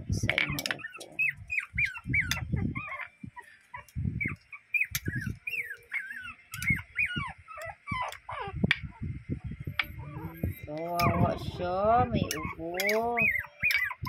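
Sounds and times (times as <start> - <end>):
puppies squeaking and whining: 0.1 - 14.0.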